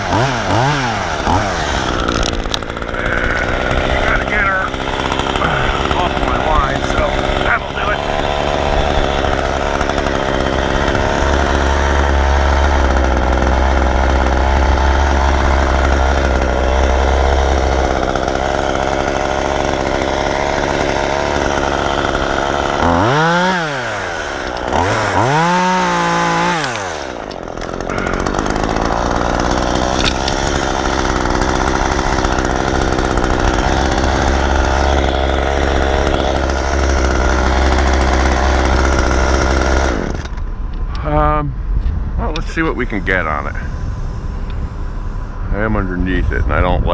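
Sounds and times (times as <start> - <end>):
chainsaw running and revving: 0.0 - 41.3, 42.4 - 46.8.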